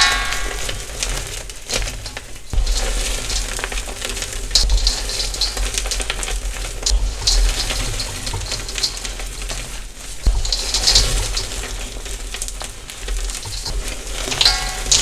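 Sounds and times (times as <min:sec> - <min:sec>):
handling thumps: 0:02.1 - 0:15.0.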